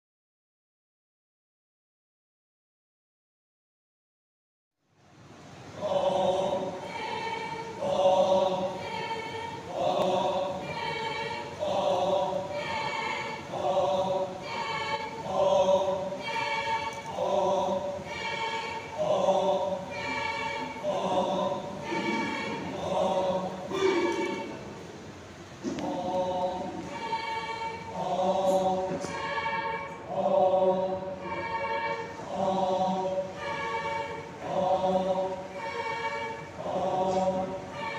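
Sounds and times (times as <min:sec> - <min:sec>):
group of voices singing: 0:05.7 - 0:24.9, 0:25.6 - 0:37.9.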